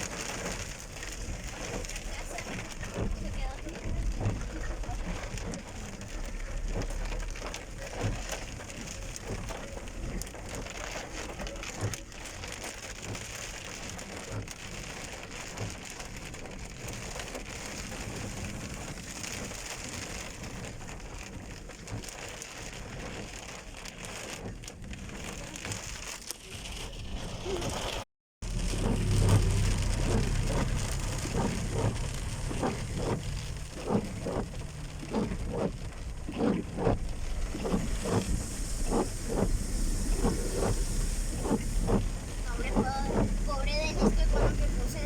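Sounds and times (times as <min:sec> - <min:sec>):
heavy rain pattering: 0:00.0 - 0:45.0.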